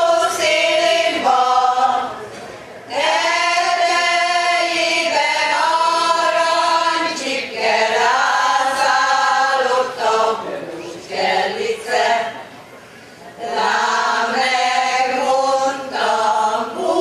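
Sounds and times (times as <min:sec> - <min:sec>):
women's choir singing a cappella: 0:00.0 - 0:02.2, 0:02.9 - 0:12.5, 0:13.3 - 0:17.0.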